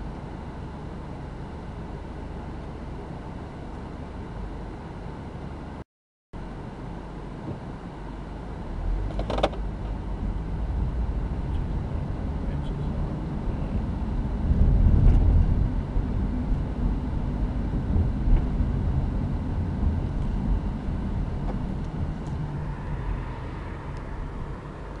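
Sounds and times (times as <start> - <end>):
car engine and tyre rumble: 0.0 - 5.8, 6.4 - 25.0.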